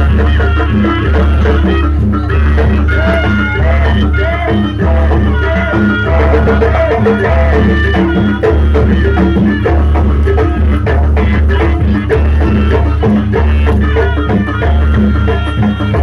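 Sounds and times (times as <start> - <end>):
drumming and percussion: 0.0 - 16.0
heavy pulsing bass: 0.0 - 16.0.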